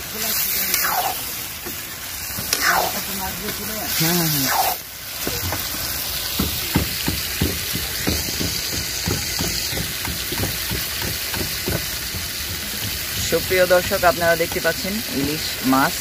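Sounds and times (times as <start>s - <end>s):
fish sizzling in a pot: 0.0s - 16.0s.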